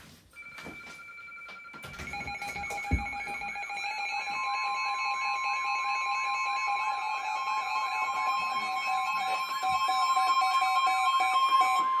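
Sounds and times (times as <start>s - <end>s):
electronic alarm tones: 0.4s - 12.0s
warbling alarm tone: 0.4s - 12.0s.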